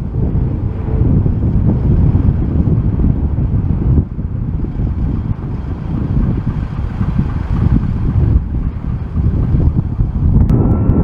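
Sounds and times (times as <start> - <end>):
jet engines: 0.0 - 10.5
gusty wind buffeting microphone: 0.0 - 11.0.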